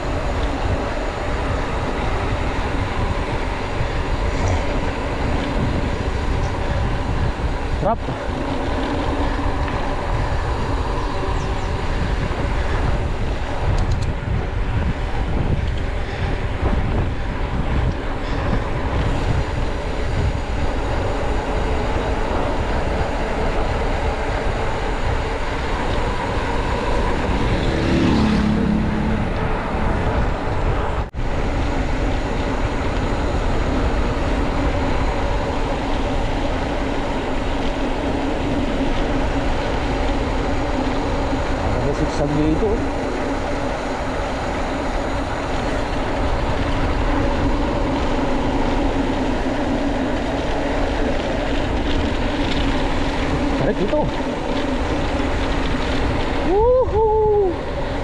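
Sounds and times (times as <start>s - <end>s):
motorcycle engine running: 0.0s - 57.1s
wind on microphone: 0.0s - 58.0s.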